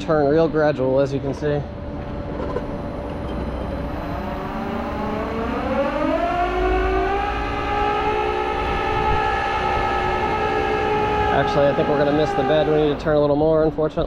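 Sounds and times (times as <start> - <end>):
hydraulic winch whine: 1.9 - 13.6.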